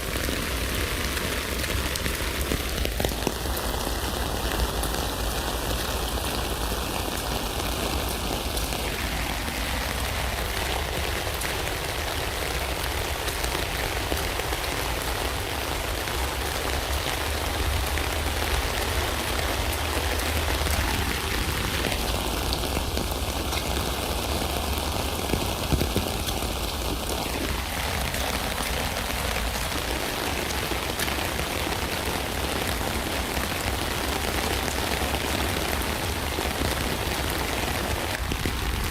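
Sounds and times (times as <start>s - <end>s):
rain falling on a tent: 0.0s - 38.9s.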